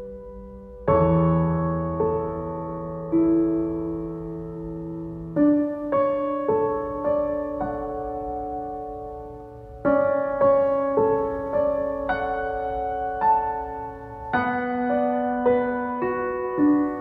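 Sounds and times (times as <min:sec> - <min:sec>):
soft slow piano music: 0:00.0 - 0:17.0.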